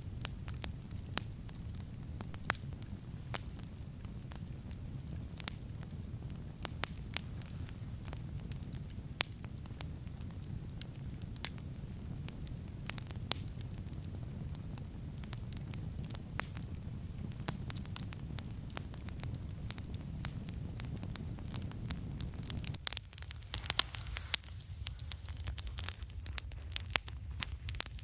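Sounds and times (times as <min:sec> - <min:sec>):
burning wood crackling and popping: 0:00.0 - 0:28.0
campfire flames rumbling: 0:00.0 - 0:28.0.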